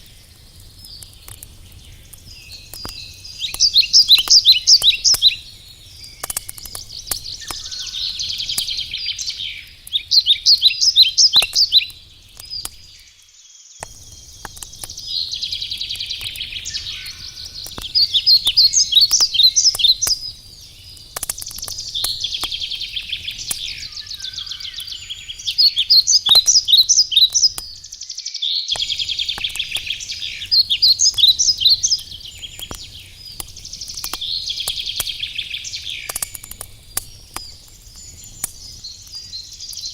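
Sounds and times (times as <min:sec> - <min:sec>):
campfire crackling: 0:00.0 - 0:28.1, 0:28.7 - 0:39.9
songbird singing: 0:00.0 - 0:39.9.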